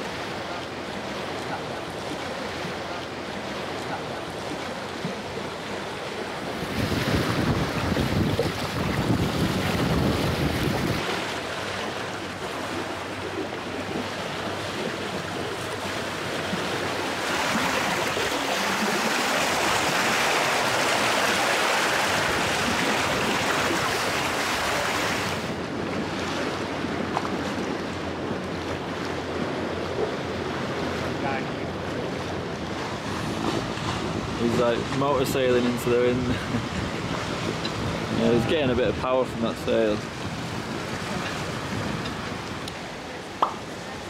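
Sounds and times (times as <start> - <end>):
water rushing along boat hull: 0.0 - 44.0
wind buffeting microphone: 1.0 - 44.0.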